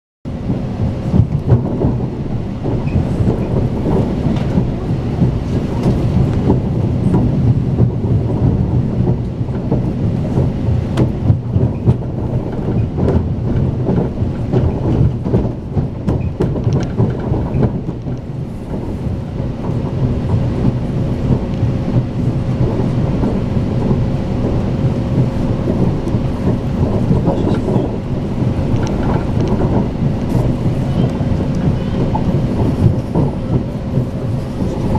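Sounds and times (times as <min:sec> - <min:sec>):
rail clicks: 0:00.3 - 0:34.9
train wheels rumbling on rail: 0:00.3 - 0:34.9.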